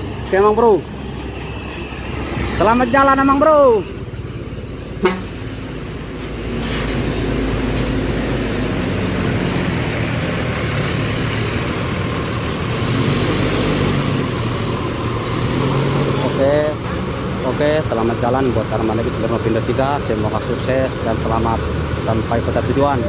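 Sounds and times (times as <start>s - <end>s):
bus engine running: 0.0s - 23.0s
traffic rumble: 0.0s - 23.0s.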